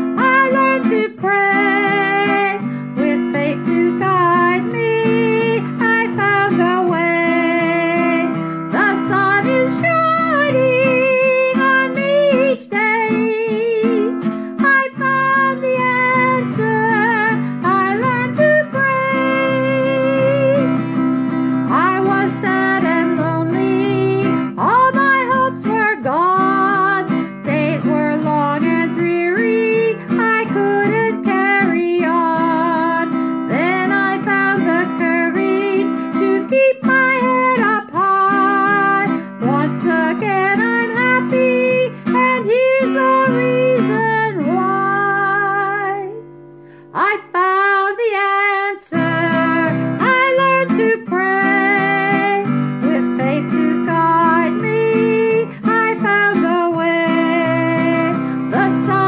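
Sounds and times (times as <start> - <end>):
acoustic guitar strumming: 0.0 - 59.0
woman singing: 0.0 - 59.0.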